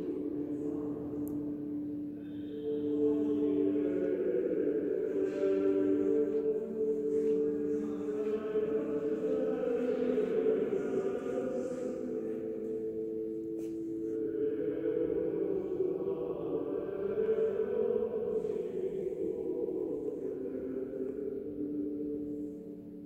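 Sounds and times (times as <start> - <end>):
slow choral music: 0.0 - 23.0.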